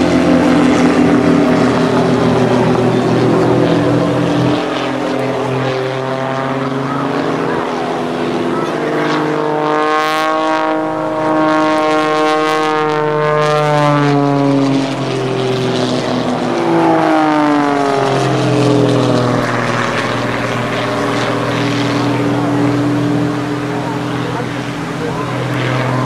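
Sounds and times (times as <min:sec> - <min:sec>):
propeller plane engine overhead: 0:00.0 - 0:26.0.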